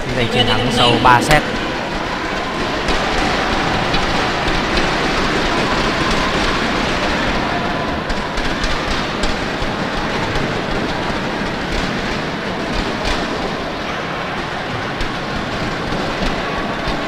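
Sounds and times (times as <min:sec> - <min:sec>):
crowd noise indoors: 0:00.0 - 0:17.0.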